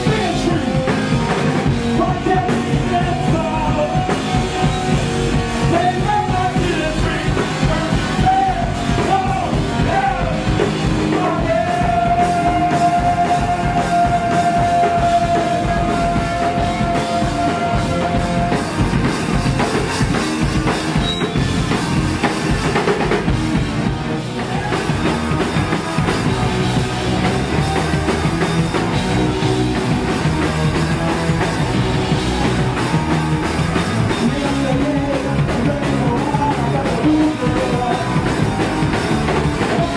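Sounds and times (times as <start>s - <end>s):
punk rock band playing live: 0.0s - 39.9s.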